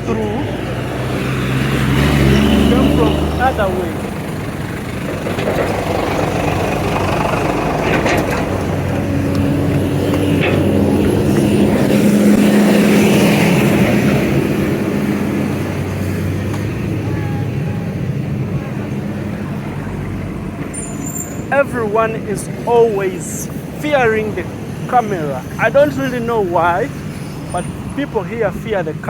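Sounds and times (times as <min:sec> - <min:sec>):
engine hum: 0:00.0 - 0:29.0
tyre and road noise: 0:00.0 - 0:29.0.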